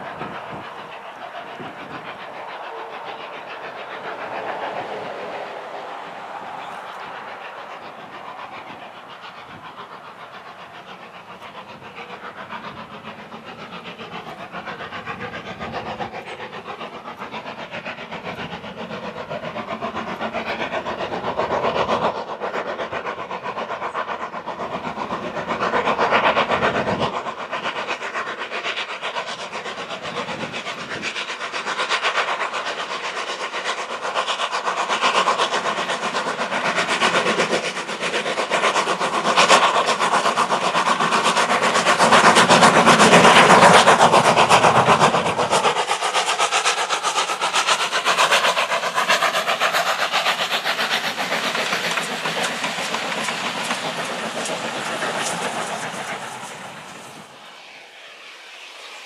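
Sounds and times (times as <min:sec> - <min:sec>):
steam hiss: 0:00.0 - 0:59.0
steam locomotive exhaust chuffs: 0:00.0 - 0:59.0
wheels on rail: 0:00.0 - 0:59.0.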